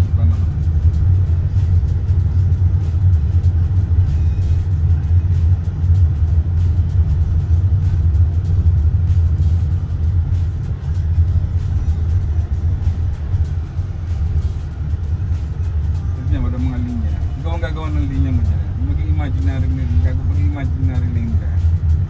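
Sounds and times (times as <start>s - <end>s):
car engine and tyres rumbling: 0.0s - 22.0s
music playing: 0.0s - 22.0s.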